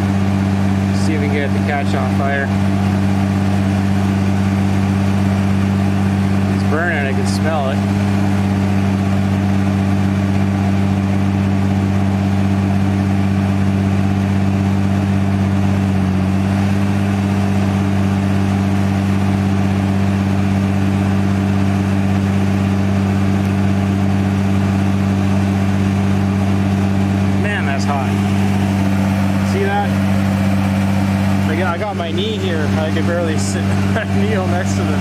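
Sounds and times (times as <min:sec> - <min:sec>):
diesel engine exhaust drone: 0:00.0 - 0:35.0.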